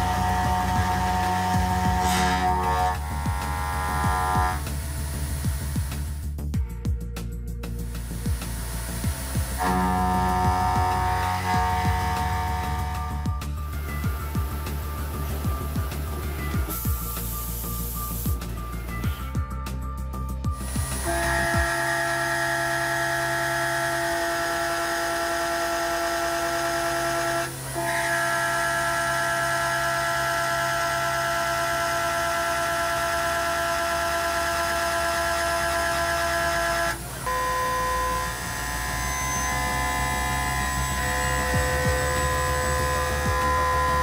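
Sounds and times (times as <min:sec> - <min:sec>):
milling cutter whining: 0:00.0 - 0:06.2, 0:07.9 - 0:19.3, 0:20.6 - 0:44.0.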